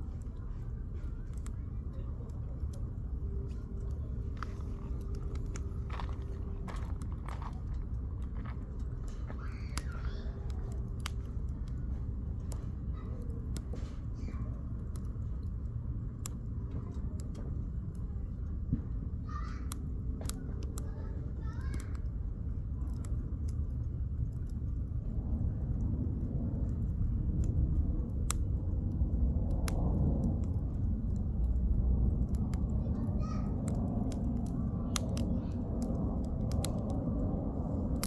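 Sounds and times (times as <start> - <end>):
campfire crackling: 0.0 - 38.0
faint murmuring voices: 0.0 - 38.0.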